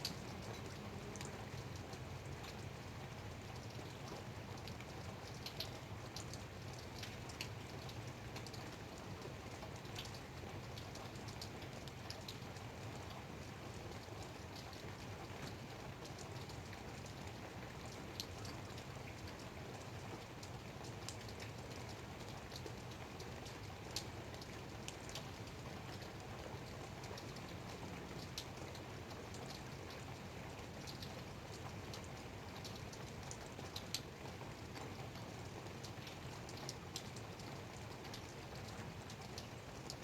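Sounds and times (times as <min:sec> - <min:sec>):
light rain pattering: 0:00.0 - 0:40.0.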